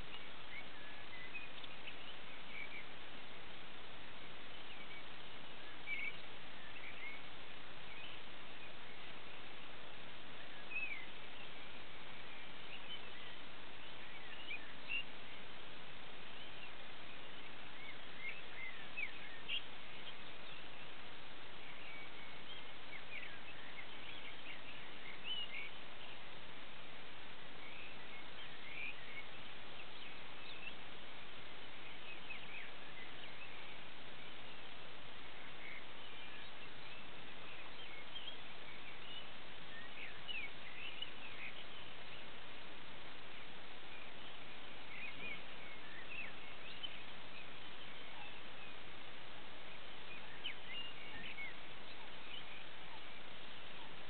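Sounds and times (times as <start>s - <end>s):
background hiss: 0.0s - 54.0s
songbirds chirping and trilling: 0.0s - 54.0s.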